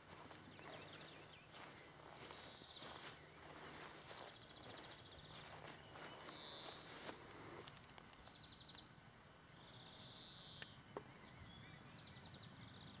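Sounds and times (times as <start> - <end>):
small bird singing trills: 0.1 - 7.1, 9.5 - 13.0.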